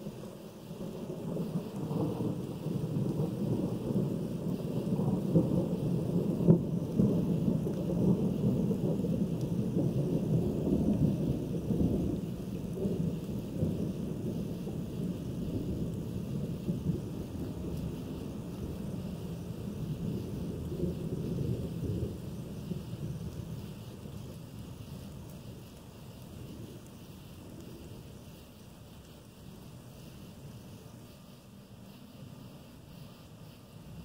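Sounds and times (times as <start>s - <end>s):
thunder rumbling: 0.0s - 31.2s
light rain: 0.0s - 34.0s.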